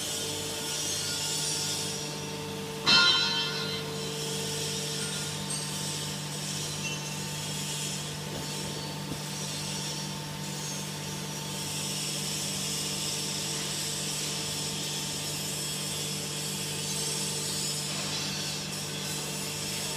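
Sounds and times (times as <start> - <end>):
hydraulic motor and pump hum: 0.0 - 19.9.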